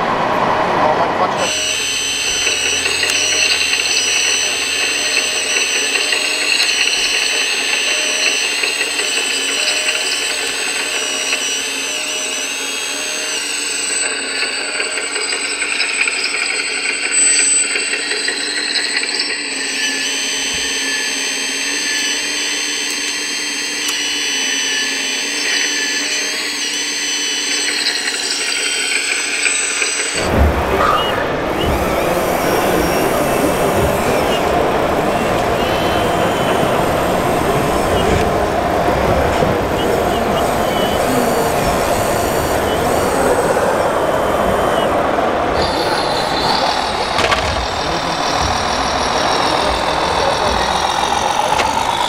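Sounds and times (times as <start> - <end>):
electric motors whining: 0.0 - 52.0.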